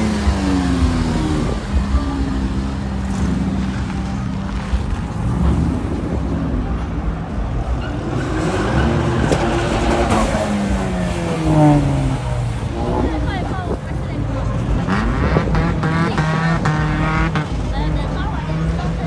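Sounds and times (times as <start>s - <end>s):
car engines running: 0.0s - 19.0s.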